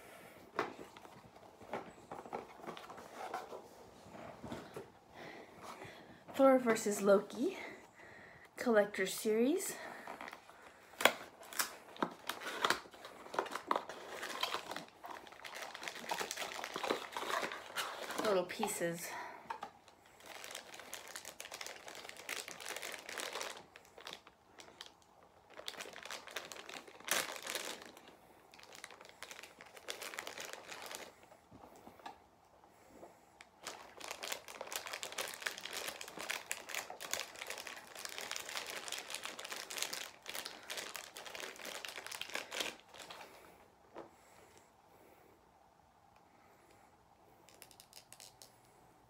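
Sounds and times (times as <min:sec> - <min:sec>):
crinkly packaging rustling: 0:00.4 - 0:07.6, 0:08.9 - 0:32.2, 0:32.8 - 0:44.5.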